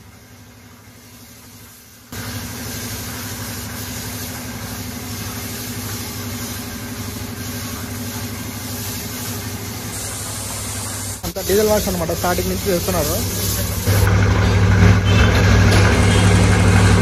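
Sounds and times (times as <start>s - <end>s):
hiss of spray: 0.0s - 14.1s
spray washer motor hum: 0.0s - 17.0s.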